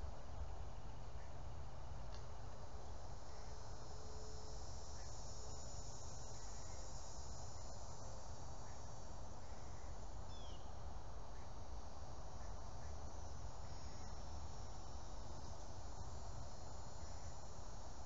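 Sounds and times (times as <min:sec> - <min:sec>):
insects singing high-pitched drone: 0:02.5 - 0:18.0.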